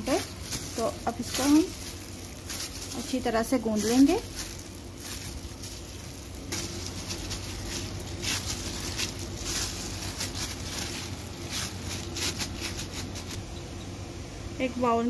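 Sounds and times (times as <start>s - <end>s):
dough pressing strokes: 0.0s - 13.4s
plastic glove crinkling: 0.0s - 13.5s
low steady hum: 0.0s - 15.0s.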